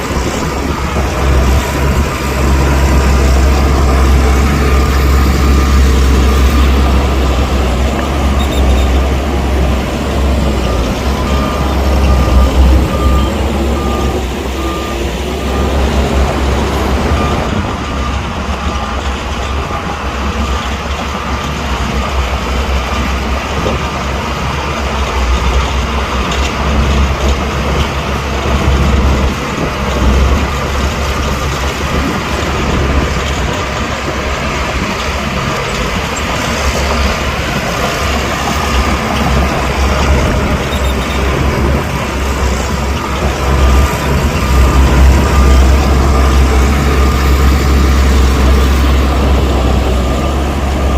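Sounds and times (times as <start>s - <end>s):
heavy diesel machinery rumbling: 0.0s - 50.9s.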